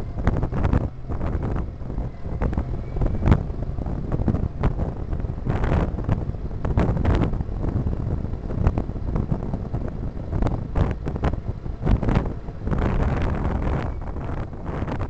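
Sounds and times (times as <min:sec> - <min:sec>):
low road rumble from car: 0:00.0 - 0:15.0
wind buffeting microphone: 0:00.0 - 0:15.0.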